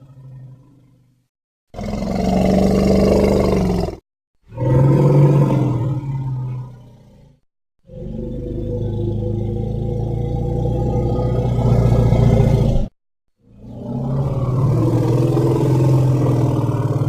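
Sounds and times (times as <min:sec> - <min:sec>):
dinosaur roars: 0:01.8 - 0:17.0.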